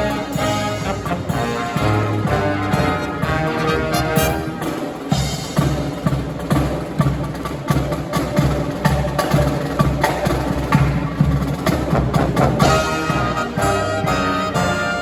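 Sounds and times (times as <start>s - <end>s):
snare and bass drums beat: 0.0s - 15.0s.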